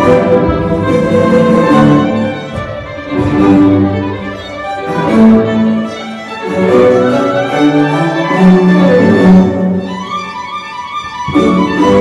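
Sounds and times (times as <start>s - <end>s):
violin and cello playing: 0.0s - 12.0s.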